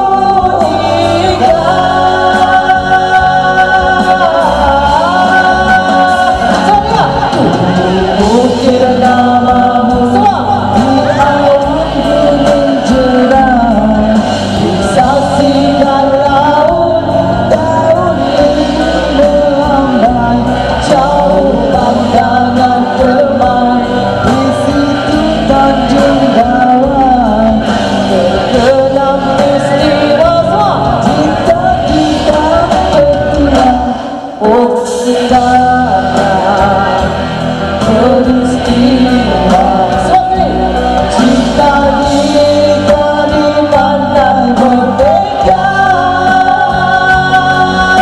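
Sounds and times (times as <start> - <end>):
karaoke backing track: 0.0 - 48.0
woman singing into microphone: 0.0 - 48.0.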